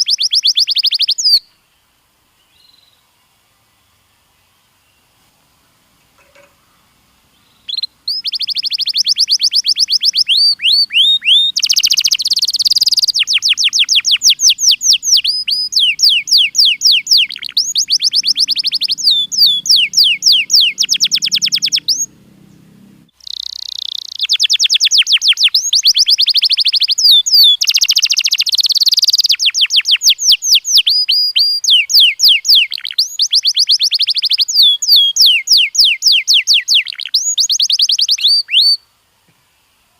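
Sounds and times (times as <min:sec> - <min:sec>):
canary singing trills: 0:00.0 - 0:01.5, 0:06.2 - 0:38.8.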